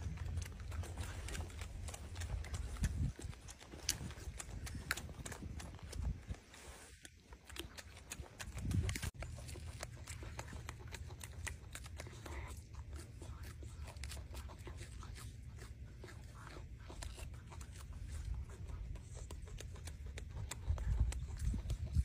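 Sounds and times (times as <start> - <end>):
low steady rumble: 0.0 - 22.0
monkey chewing and smacking: 0.0 - 22.0.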